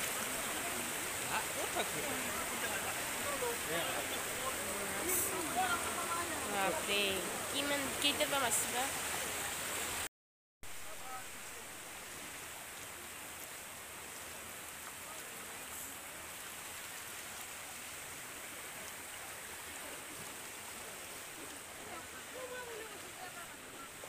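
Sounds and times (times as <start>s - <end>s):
people wading through water: 0.0s - 9.9s, 10.9s - 24.0s
floodwater rushing: 0.0s - 10.1s, 10.8s - 24.0s.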